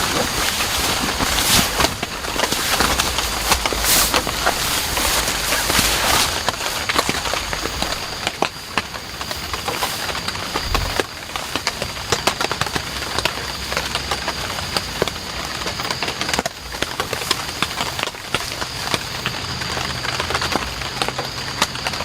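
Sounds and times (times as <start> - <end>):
heavy rain falling: 0.0 - 22.0
sharp taps of raindrops: 0.0 - 22.0.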